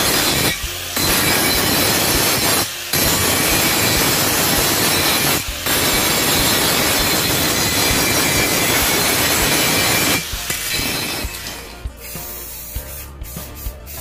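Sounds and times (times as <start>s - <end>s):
angle grinder grinding rust: 0.0s - 14.0s.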